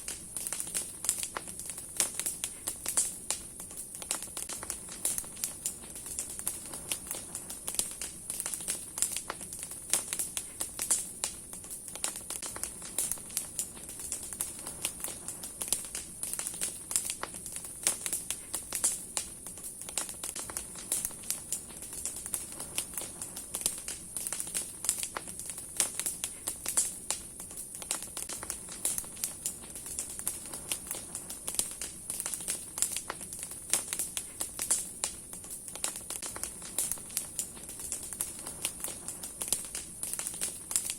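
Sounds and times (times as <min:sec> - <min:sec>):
campfire crackling and popping: 0:00.0 - 0:40.9
fire hissing: 0:00.0 - 0:40.9.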